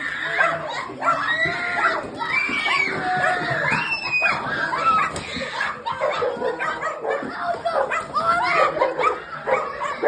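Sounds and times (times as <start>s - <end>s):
children screaming: 0.0s - 10.0s.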